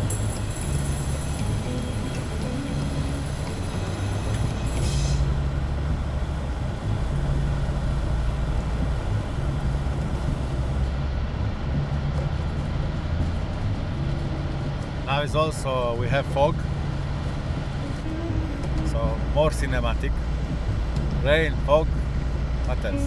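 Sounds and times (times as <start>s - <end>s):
car driving: 0.0s - 23.0s.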